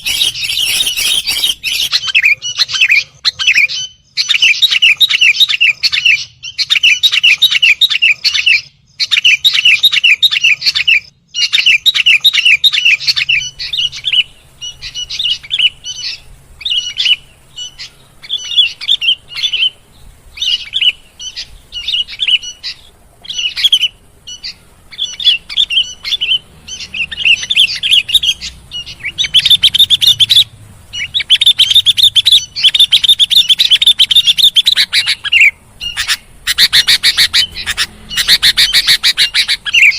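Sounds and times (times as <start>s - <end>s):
bird chirping and chattering: 0.0s - 39.9s.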